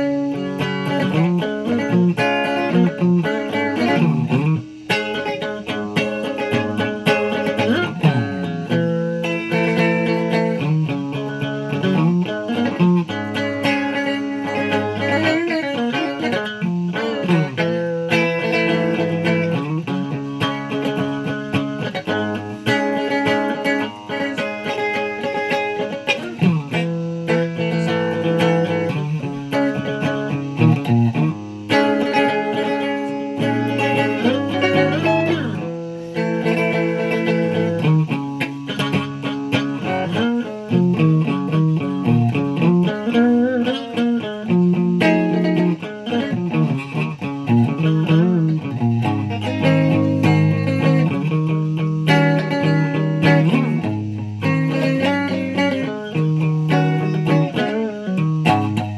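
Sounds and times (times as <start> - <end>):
guitar playing: 0.0 - 58.9.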